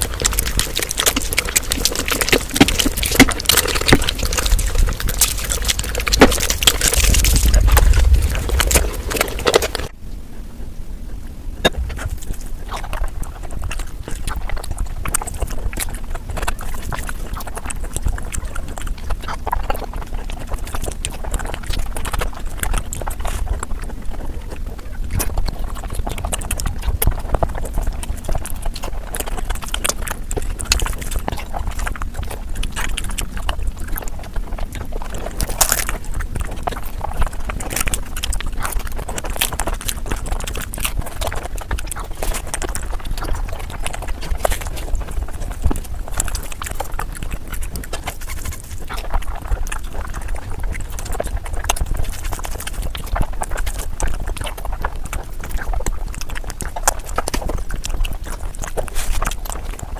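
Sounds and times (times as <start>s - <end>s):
sped-up chewing and lip-smacking: 0.0s - 59.9s.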